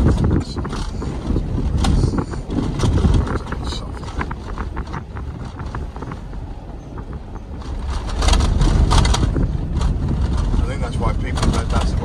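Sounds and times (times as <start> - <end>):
car engine and tyres rumbling: 0.0 - 12.0
rushing air noise: 0.0 - 12.0.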